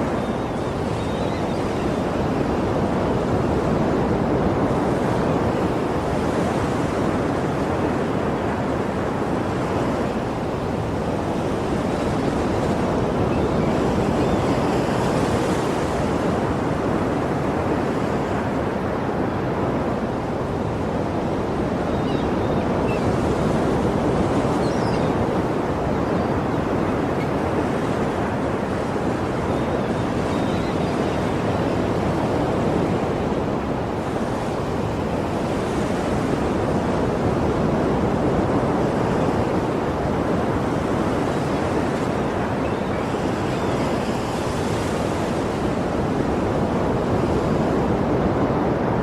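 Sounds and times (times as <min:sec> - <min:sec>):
sea waves breaking on shore: 0:00.0 - 0:49.0.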